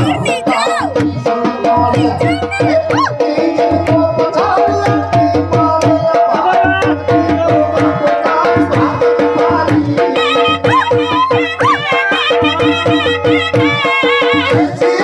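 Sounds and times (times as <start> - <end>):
fast drumming: 0.0 - 15.0.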